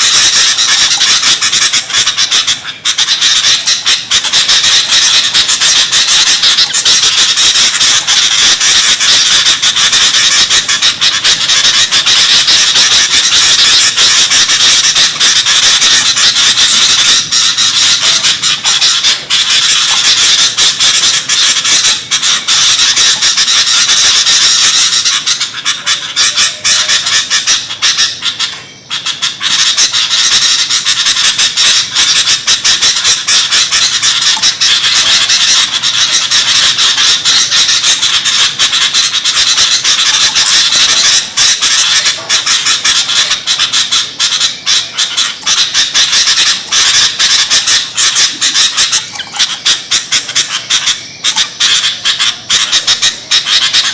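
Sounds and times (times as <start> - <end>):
bulbuls chattering calls: 0.0 - 53.9.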